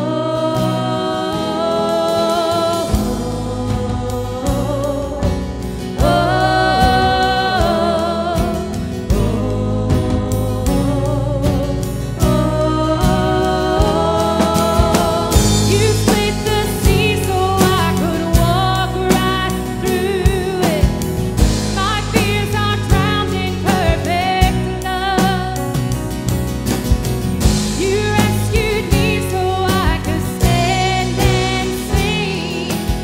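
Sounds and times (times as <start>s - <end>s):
woman singing: 0.0s - 26.0s, 27.6s - 33.0s
worship band playing: 0.0s - 33.0s
drum hits: 2.9s - 33.0s.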